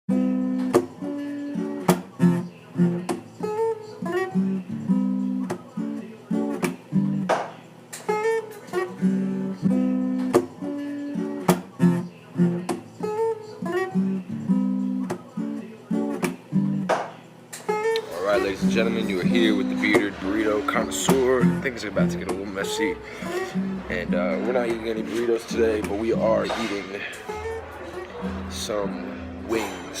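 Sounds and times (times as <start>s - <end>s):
acoustic guitar picking and strumming: 0.1s - 30.0s.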